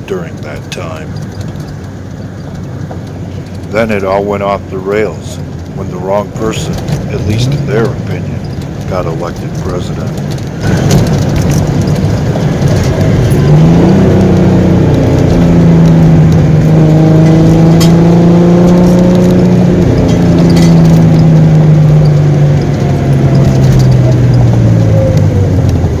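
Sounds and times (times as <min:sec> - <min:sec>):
road and wind noise: 0:00.0 - 0:26.0
vehicle engine running: 0:00.0 - 0:26.0.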